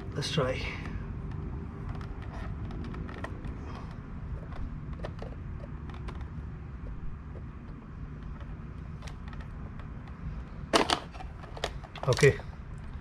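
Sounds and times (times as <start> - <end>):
low background rumble: 0.0 - 13.0
tool clicking and creaking on metal: 0.7 - 13.0.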